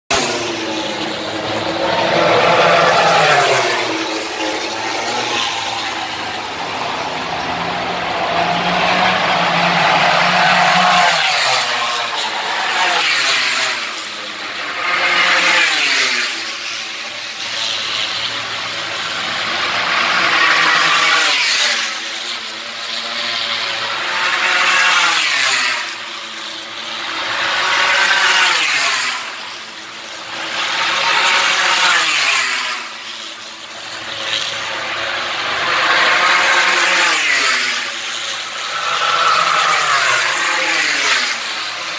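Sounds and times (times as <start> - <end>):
racing motorcycles passing: 0.1 - 41.9.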